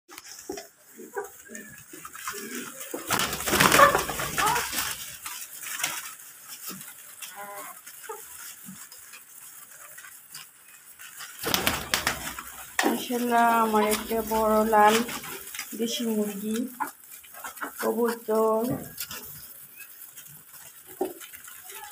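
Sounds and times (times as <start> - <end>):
hens clucking: 0.2 - 21.9
wings rustling: 0.2 - 21.9.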